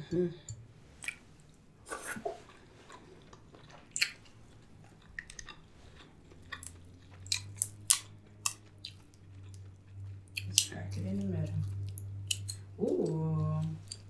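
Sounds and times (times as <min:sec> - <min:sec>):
low steady hum: 0:00.0 - 0:14.0
chewing and biting seafood: 0:02.0 - 0:14.0.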